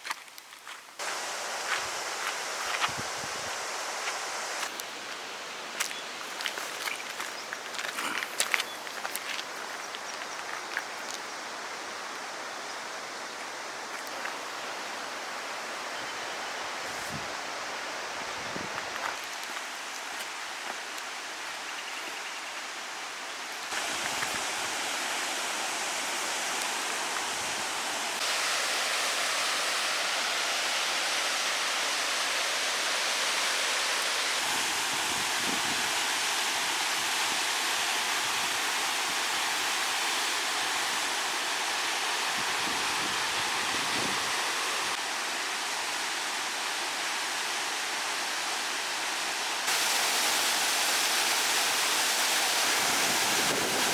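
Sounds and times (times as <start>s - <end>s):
flowing creek water: 0.0s - 53.9s.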